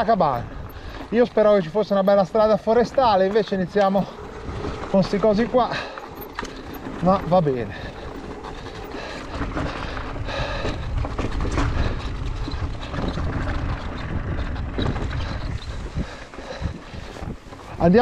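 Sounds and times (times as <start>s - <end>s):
bike knocks and rattles: 0.0s - 18.0s
tyres rumbling over stony ground: 0.0s - 18.0s
wind buffeting microphone: 0.0s - 18.0s.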